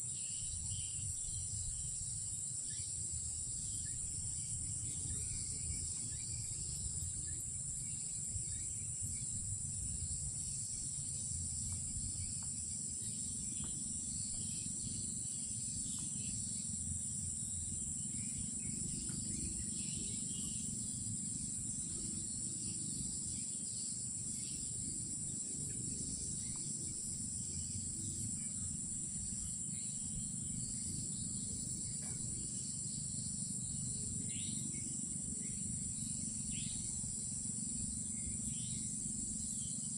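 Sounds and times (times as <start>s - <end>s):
faint insect chirps: 0.0s - 39.9s
insects droning: 0.0s - 39.9s
low steady rumble: 0.2s - 39.9s.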